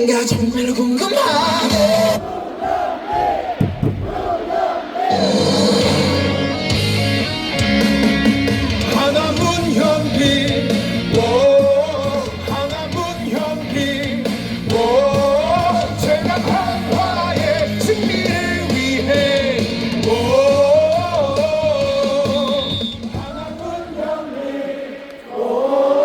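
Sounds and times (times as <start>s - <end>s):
rock music over loudspeakers: 0.0s - 2.2s, 5.1s - 23.9s
crowd singing a cheer song: 0.0s - 6.4s, 8.9s - 26.0s.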